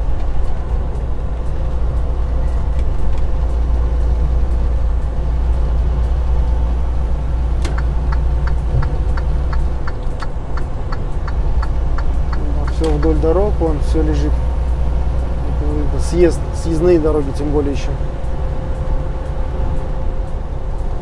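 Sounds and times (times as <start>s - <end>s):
road noise: 0.0s - 21.0s
truck diesel engine drone: 0.0s - 21.0s
turn signal ticking: 0.0s - 21.0s.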